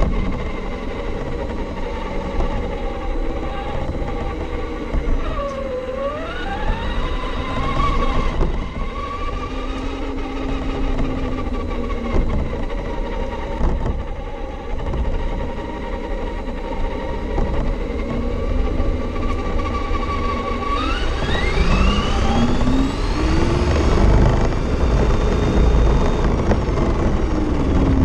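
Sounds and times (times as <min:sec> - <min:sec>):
low rumble of tyres: 0:00.0 - 0:28.0
rc truck motor whining: 0:00.0 - 0:28.0.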